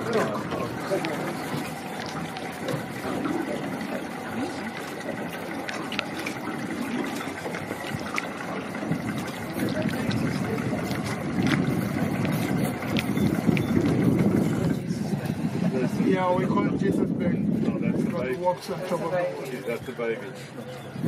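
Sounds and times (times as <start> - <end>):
boat engine idling: 0.0 - 21.0
water lapping at hull: 0.0 - 21.0.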